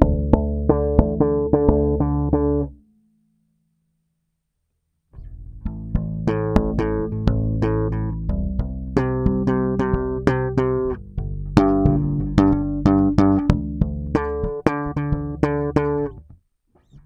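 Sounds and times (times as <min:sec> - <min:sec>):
electric bass plucked notes: 0:00.0 - 0:02.9, 0:05.2 - 0:17.0.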